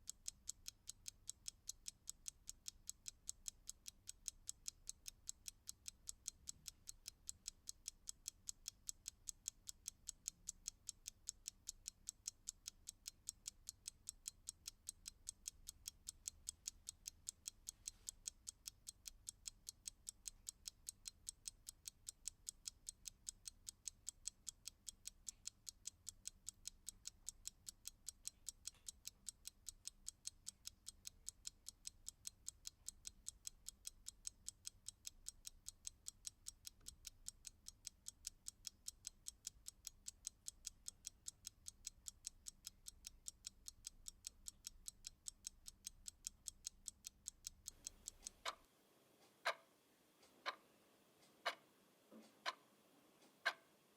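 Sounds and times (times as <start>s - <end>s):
clock ticking: 0.0s - 53.9s.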